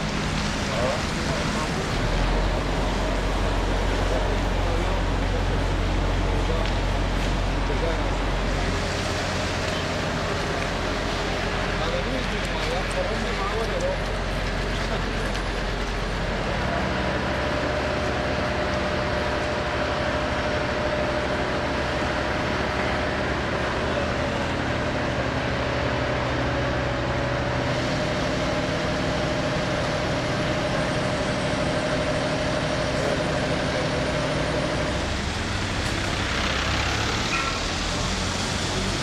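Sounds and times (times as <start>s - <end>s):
engine droning hum: 0.0s - 39.0s
rough engine noise: 0.0s - 39.0s.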